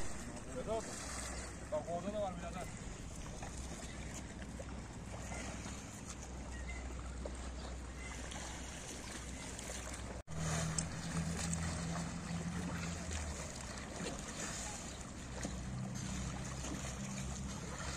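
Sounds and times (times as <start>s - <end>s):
low constant hum: 0.0s - 17.9s.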